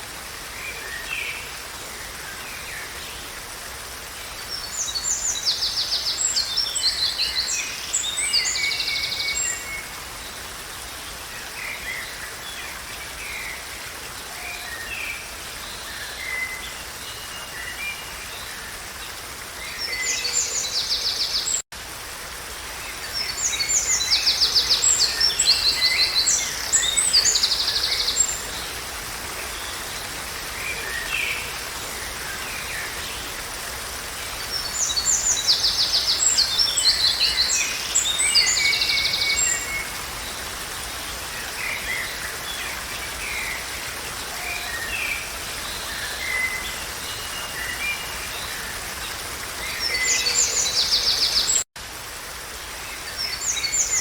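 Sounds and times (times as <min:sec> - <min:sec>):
moving water hiss: 0:00.0 - 0:54.0.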